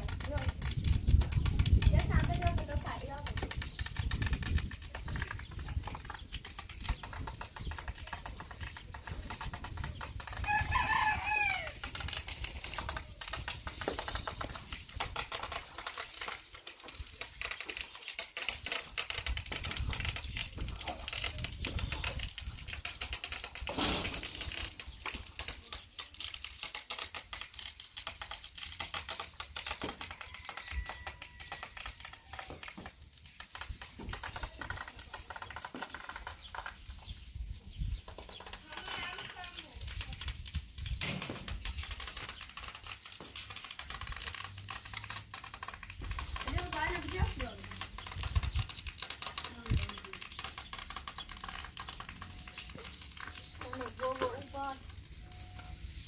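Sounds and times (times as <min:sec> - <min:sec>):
brooms scraping stone floor: 0:00.0 - 0:56.0.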